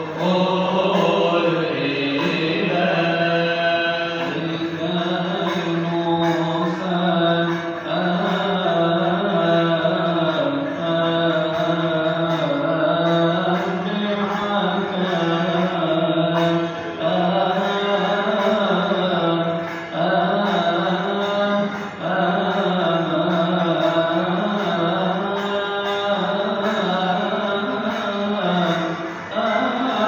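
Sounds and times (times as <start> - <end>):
low voice chanting: 0.0 - 30.0.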